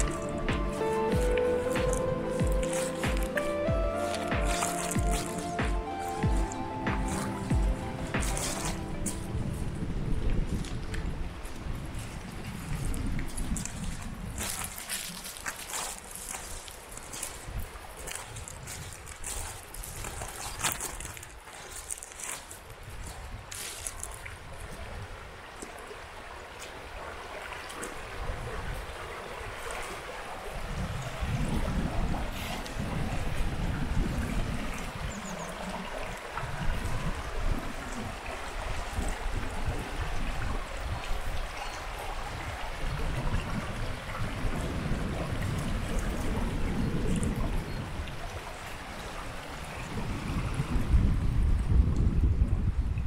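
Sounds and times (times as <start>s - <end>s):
river rushing over pebbles: 0.0s - 52.0s
wind rumble on microphone: 0.0s - 53.0s.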